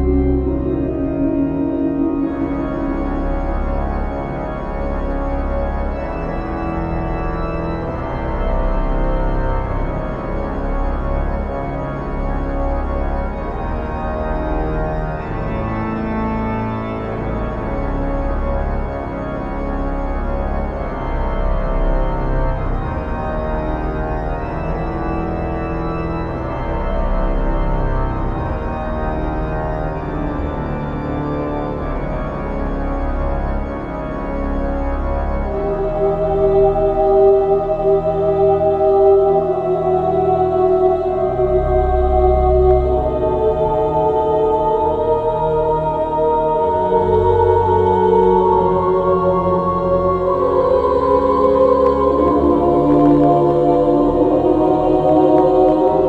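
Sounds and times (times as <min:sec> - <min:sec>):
organ chords over low bass: 0:00.0 - 0:56.0.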